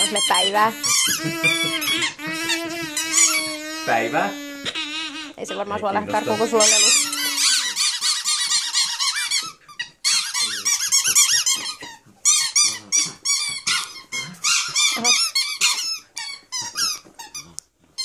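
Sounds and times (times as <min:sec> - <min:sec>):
squeaky dog toy squeaking: 0:00.0 - 0:18.0.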